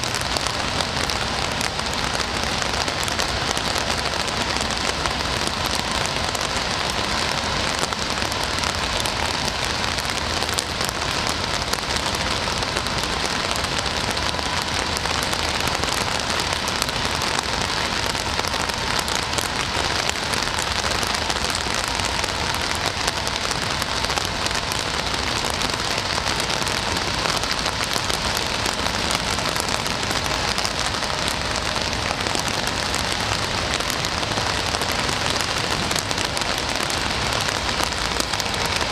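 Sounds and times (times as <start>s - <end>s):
raindrops ticking on a surface: 0.0s - 38.9s
steady rain falling: 0.0s - 38.9s.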